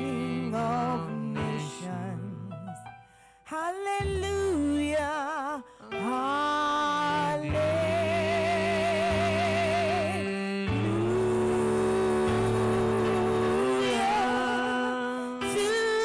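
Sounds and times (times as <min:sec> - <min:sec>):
woman singing into microphone: 0:00.0 - 0:02.5, 0:03.5 - 0:16.0
sustained backing chords: 0:00.0 - 0:03.1, 0:06.0 - 0:16.0.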